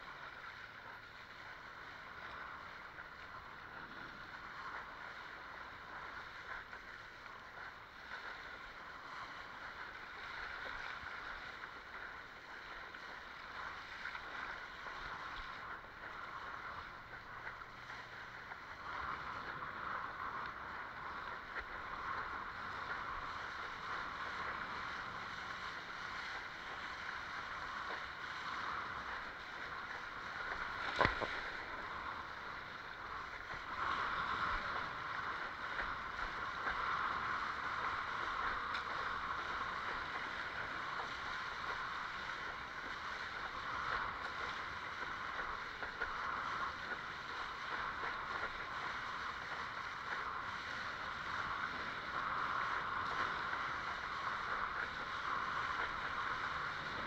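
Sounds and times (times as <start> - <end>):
water rushing along board hull: 0.0 - 57.0.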